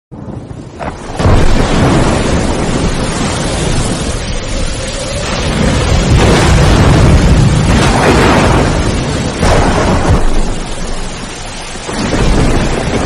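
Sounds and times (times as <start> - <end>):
storm wind gusting through trees: 0.1 - 13.0
wind buffeting microphone: 0.1 - 13.0.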